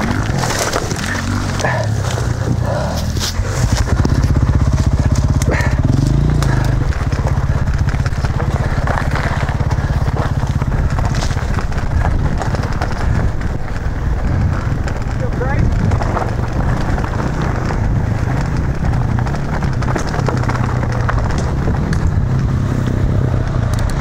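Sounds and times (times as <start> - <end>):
dirt bike engine running: 0.0 - 24.0
tyres crunching over loose rock: 0.0 - 24.0.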